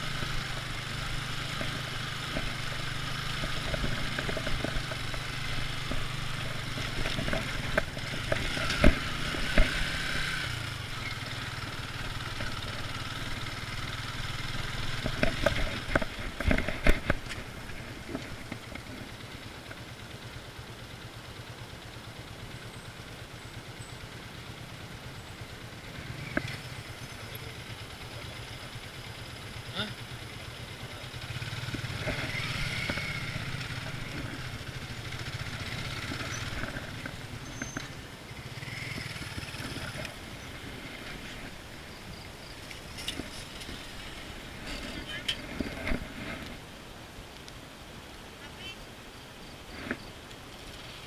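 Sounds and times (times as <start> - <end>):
motorcycle engine idling: 0.0 - 46.4.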